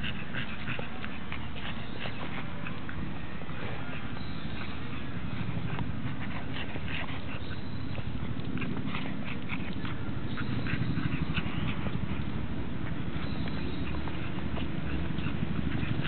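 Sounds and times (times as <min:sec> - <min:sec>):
dog breathing: 0:00.0 - 0:16.0.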